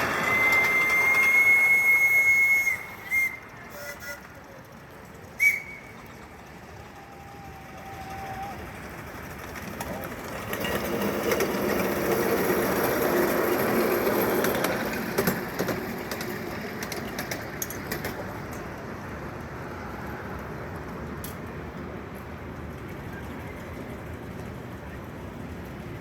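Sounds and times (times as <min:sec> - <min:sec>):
small train rumbling past: 0:00.0 - 0:26.0.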